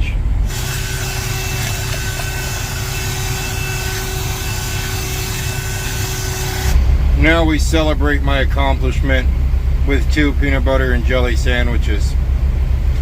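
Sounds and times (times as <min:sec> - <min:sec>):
engine-like drone: 0:00.0 - 0:13.0.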